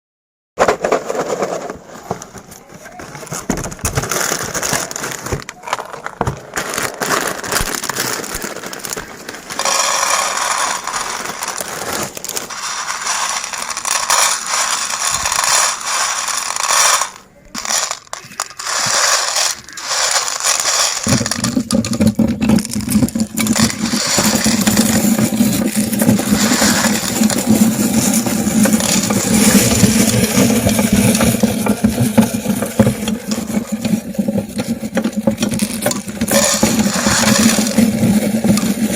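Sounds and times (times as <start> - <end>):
meat grinder grinding candies: 3.3 - 38.9.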